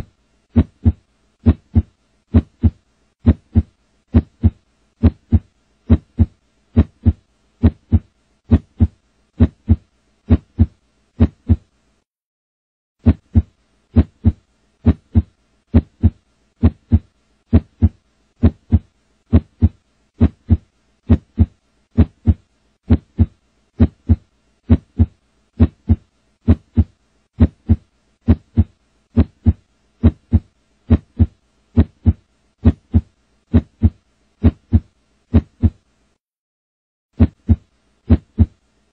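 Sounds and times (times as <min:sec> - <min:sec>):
heartbeat thumps: 0:00.0 - 0:11.7, 0:13.0 - 0:35.8, 0:37.2 - 0:38.6.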